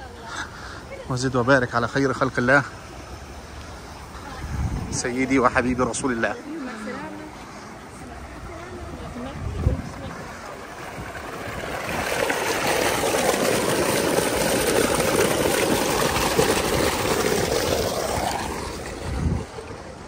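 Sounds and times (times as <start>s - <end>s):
water gushing into pool: 0.0s - 20.0s.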